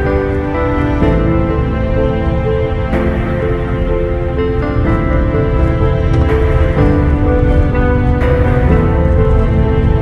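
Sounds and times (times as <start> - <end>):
low steady accompaniment: 0.0 - 10.0.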